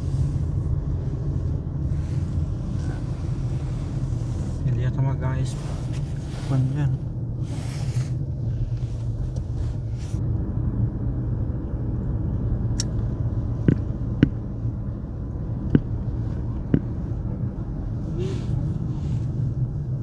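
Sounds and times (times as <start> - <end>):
car driving slowly: 0.0 - 20.0.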